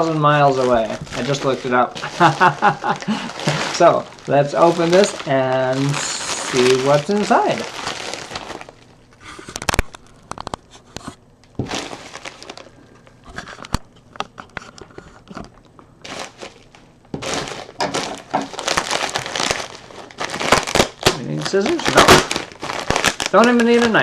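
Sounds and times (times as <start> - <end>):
packaging tearing and crinkling: 0.0 - 24.0.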